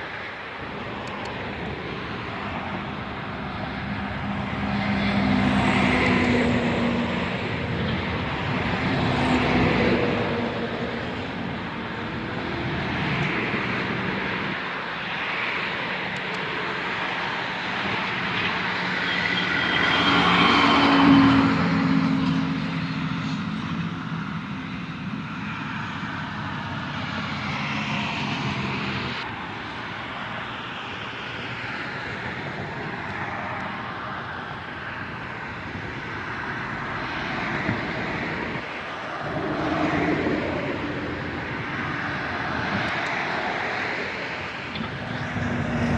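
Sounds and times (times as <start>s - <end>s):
road traffic passing: 0.0s - 45.9s
truck passing loudly: 0.6s - 14.7s, 16.5s - 29.3s, 35.0s - 45.9s.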